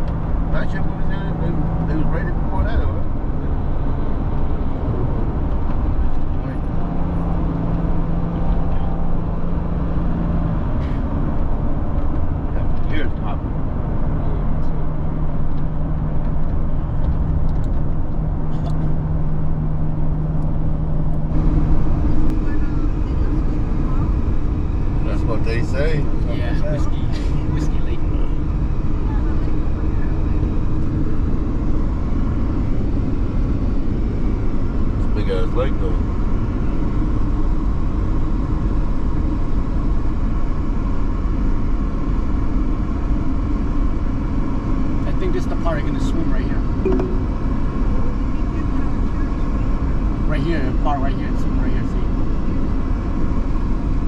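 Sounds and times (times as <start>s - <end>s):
car road noise: 0.0s - 54.0s
steady low hum: 0.0s - 54.0s.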